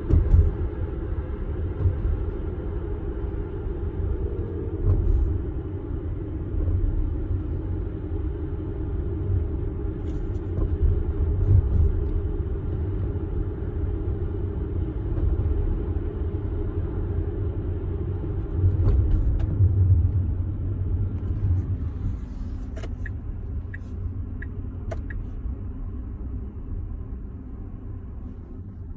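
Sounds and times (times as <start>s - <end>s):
car road rumble on stone road: 0.0s - 28.9s.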